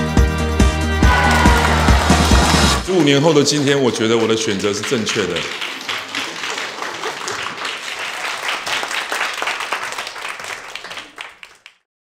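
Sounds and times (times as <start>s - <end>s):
audience applauding: 1.0s - 11.8s.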